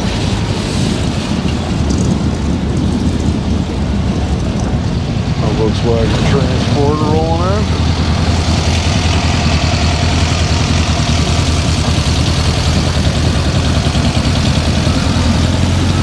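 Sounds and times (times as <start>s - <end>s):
air-cooled van engine running: 0.0s - 16.0s.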